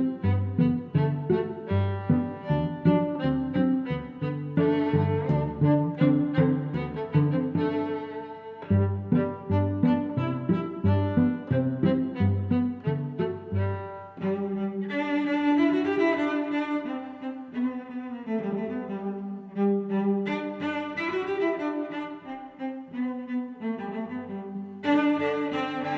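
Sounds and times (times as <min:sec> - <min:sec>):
cello and bowed strings music: 0:00.0 - 0:25.9.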